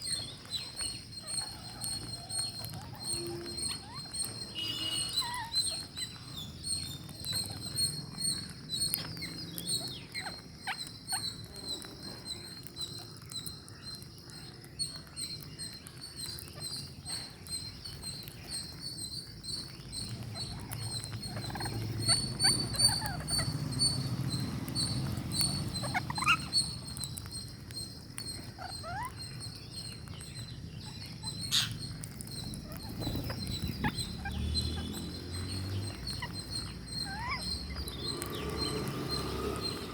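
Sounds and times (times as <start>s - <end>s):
parakeets chattering: 0.0s - 39.9s
squeaky chirps: 0.0s - 39.9s.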